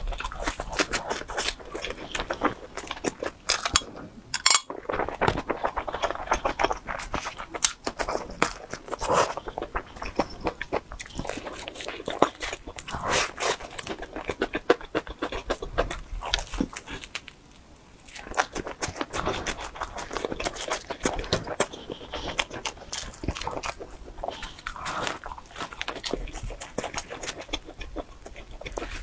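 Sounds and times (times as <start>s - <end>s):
chewing and lip-smacking: 0.0s - 4.1s, 4.7s - 17.4s, 18.0s - 29.0s.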